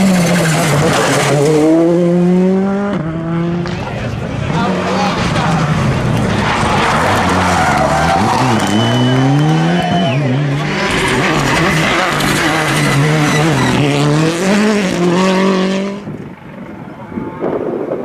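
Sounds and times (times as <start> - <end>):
rally car engine accelerating: 0.0 - 16.2.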